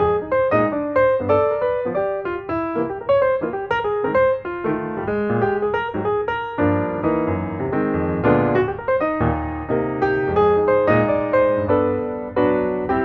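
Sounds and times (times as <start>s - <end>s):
piano tune with bass line: 0.0s - 13.0s.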